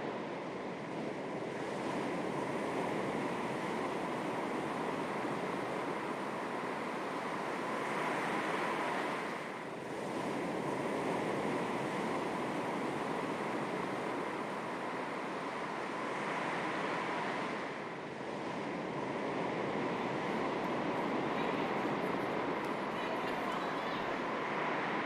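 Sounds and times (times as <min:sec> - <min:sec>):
sea waves lapping on shore: 0:00.2 - 0:25.0.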